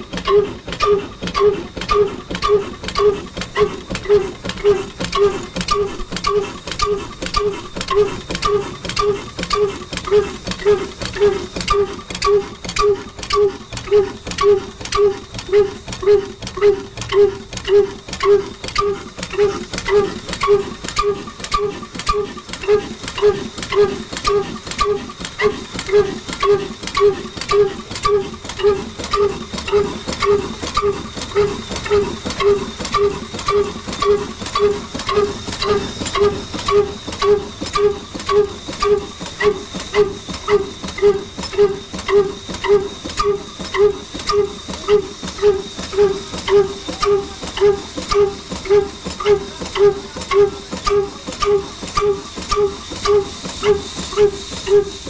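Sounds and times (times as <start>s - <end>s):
diesel engine chuffing: 0.0s - 55.0s.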